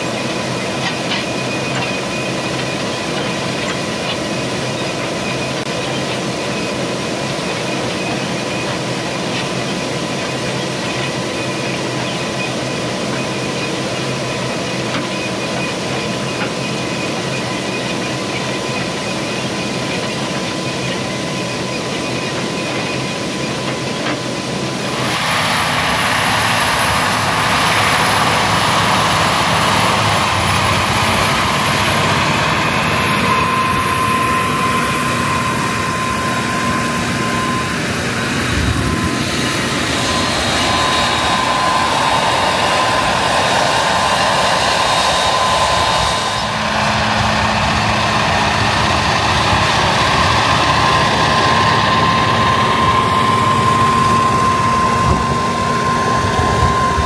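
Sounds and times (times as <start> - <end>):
tractor engine drone: 0.0 - 57.0.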